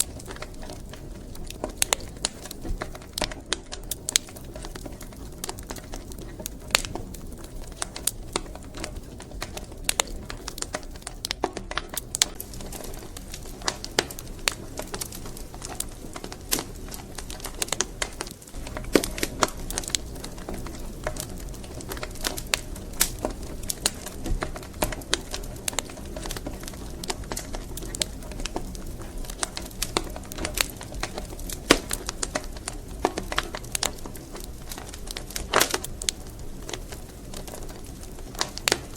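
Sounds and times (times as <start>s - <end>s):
firewood crackling and popping: 0.0s - 38.9s
low rumble of flames: 0.0s - 38.9s.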